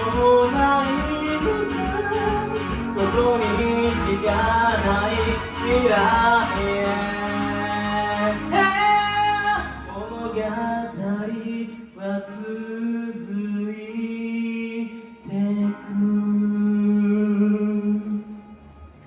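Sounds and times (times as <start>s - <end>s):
pop song backing track: 0.0s - 19.0s.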